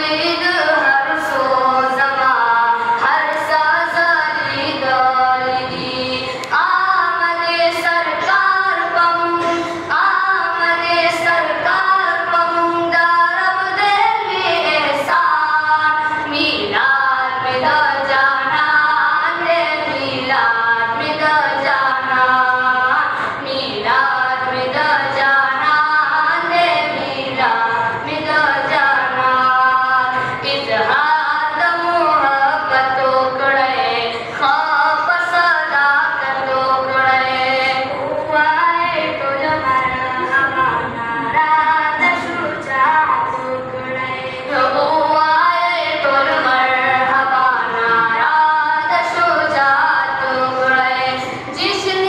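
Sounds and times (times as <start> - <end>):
young men singing unaccompanied: 0.0 - 52.0.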